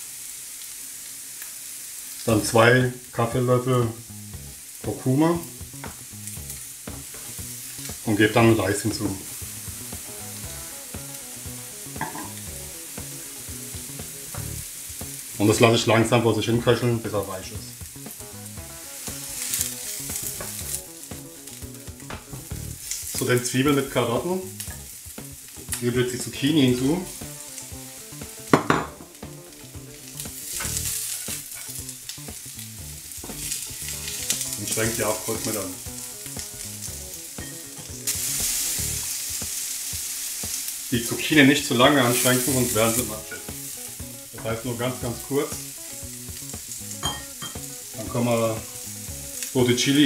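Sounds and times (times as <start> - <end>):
vegetables sizzling in oil: 0.0 - 50.0.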